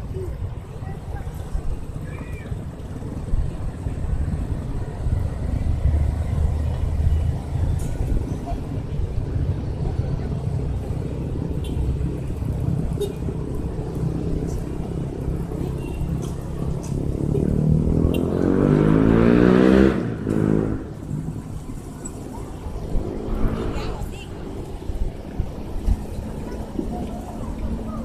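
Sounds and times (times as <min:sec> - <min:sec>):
engine rumbling and revving: 0:02.5 - 0:28.0.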